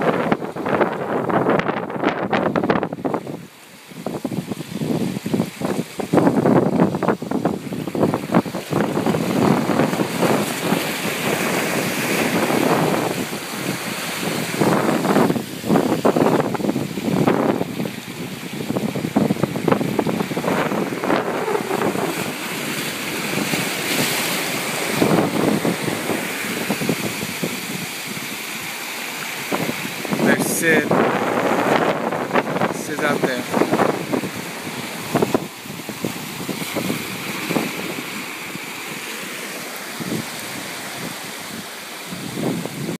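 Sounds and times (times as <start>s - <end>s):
wind buffeting microphone: 0.0s - 39.0s, 39.9s - 43.0s
sea surf washing over rocks: 0.0s - 43.0s.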